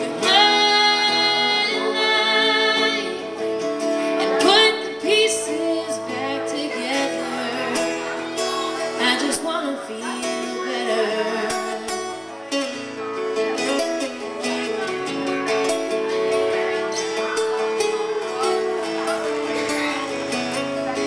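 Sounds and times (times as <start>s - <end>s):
acoustic guitars strumming: 0.0s - 21.0s.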